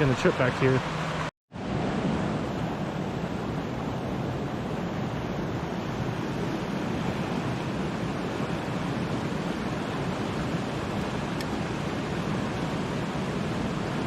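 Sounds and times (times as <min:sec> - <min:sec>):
creek water flowing over rocks: 0:02.4 - 0:14.0.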